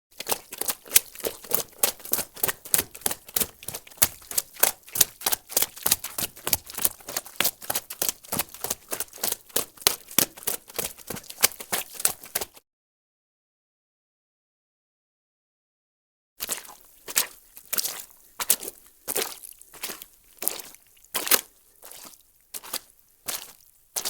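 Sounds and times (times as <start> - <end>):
footsteps squelching in mud: 0.1 - 12.6, 16.4 - 24.0.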